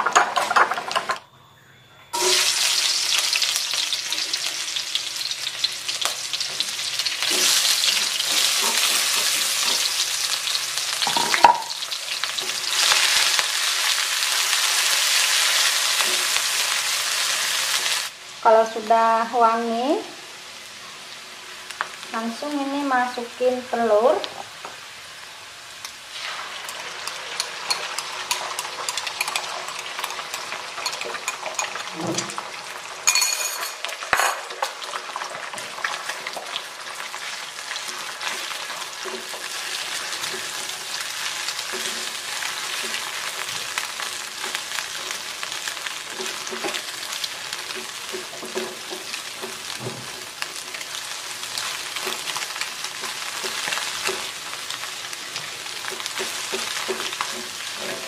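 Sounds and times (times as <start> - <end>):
egg sizzling in hot oil: 2.2 - 18.4, 24.2 - 33.1, 33.8 - 58.0.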